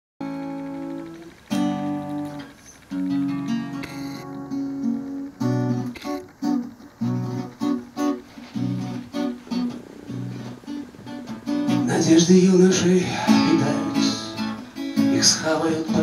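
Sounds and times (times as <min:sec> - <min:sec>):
acoustic guitar strumming: 0:00.2 - 0:16.0.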